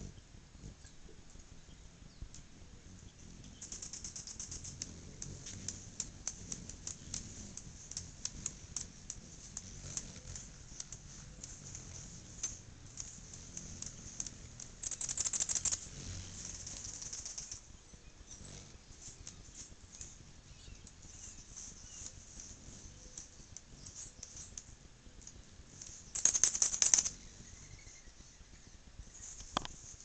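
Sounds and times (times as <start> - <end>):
hummingbird chip notes: 0.0 - 29.9
hummingbird buzzy chatter: 0.0 - 30.0.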